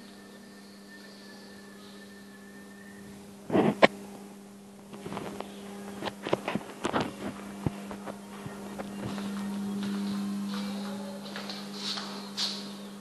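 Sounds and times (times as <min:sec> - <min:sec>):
electrical hum: 0:00.0 - 0:13.0
faint high whine: 0:00.0 - 0:13.0.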